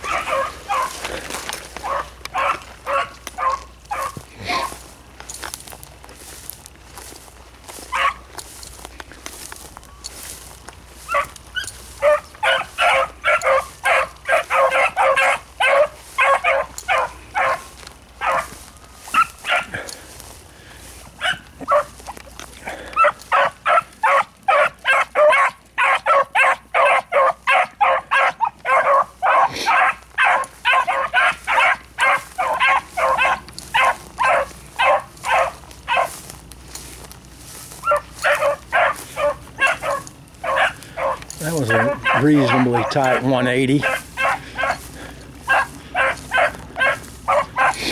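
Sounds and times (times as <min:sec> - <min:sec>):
dogs baying: 0:00.0 - 0:05.5, 0:06.2 - 0:47.9.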